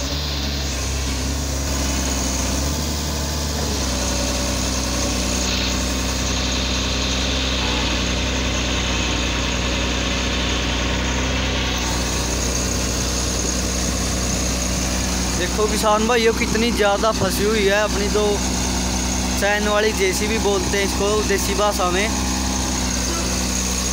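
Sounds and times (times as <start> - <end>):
excavator diesel engine idling: 0.0 - 23.9.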